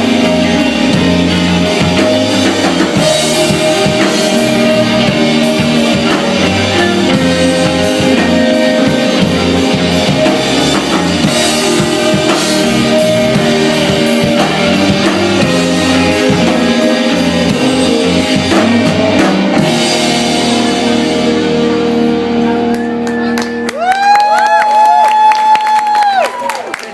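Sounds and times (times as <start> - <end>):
held guitar chords ringing: 0.0 - 23.8
drum kit: 0.0 - 24.2
rock band playing: 0.0 - 26.3.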